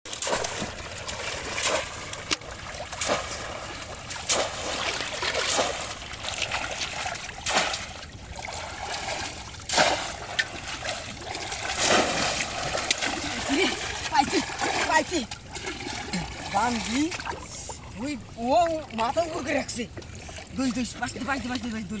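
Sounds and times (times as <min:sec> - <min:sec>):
shallow water trickling: 0:00.1 - 0:22.0
water splash: 0:00.1 - 0:22.0.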